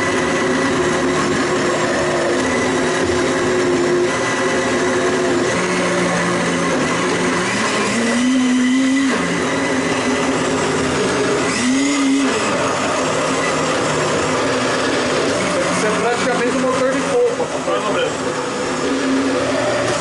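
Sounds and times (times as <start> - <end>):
blender running: 0.0 - 20.0.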